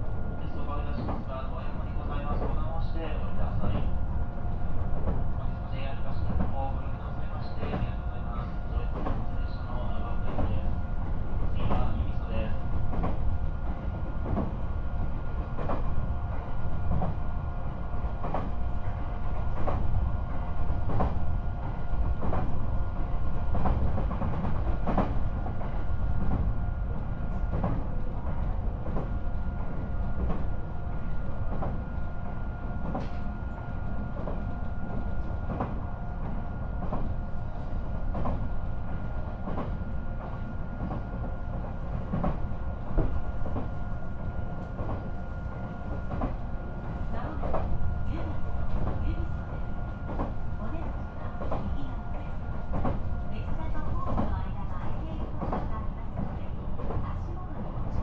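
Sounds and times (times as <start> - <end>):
train running rumble: 0.0 - 58.0
rail joint clicks: 0.8 - 58.0.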